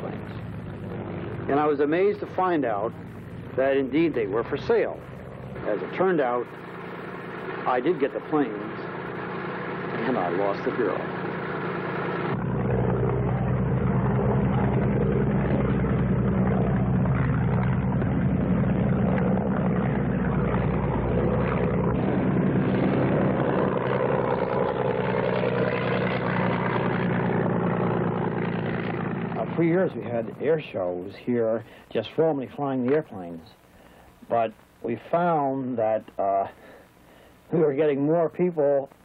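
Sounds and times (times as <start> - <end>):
biplane engine and propeller droning: 0.0 - 39.0.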